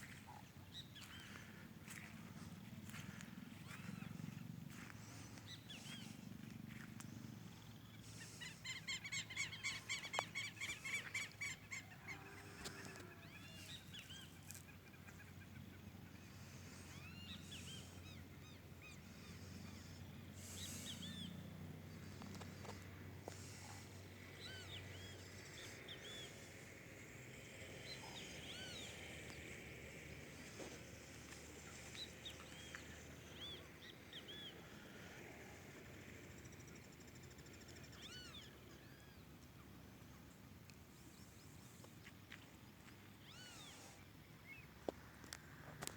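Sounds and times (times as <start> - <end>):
birds calling: 0.0 - 26.6, 27.4 - 39.3.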